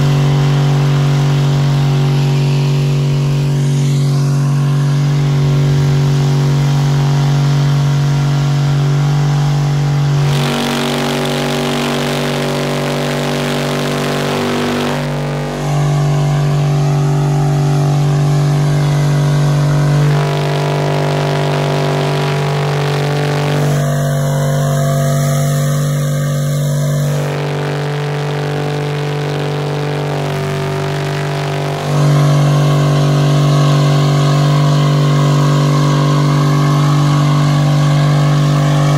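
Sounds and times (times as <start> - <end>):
engine revving high: 0.0 - 38.9.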